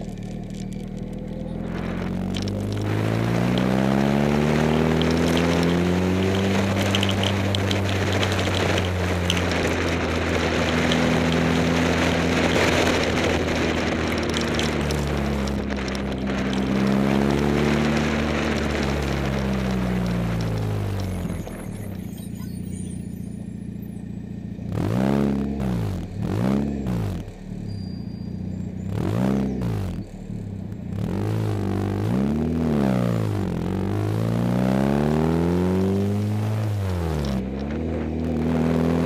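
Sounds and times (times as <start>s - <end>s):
car engine pulling away: 0.0s - 39.0s
wind and road noise: 0.0s - 39.0s.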